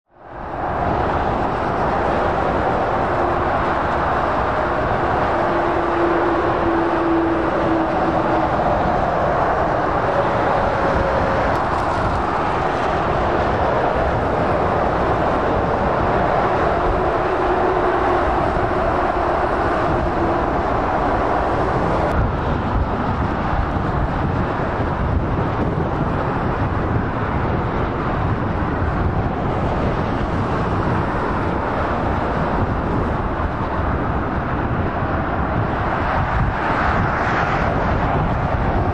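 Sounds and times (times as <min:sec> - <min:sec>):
motorway traffic rushing: 0:00.0 - 0:38.9.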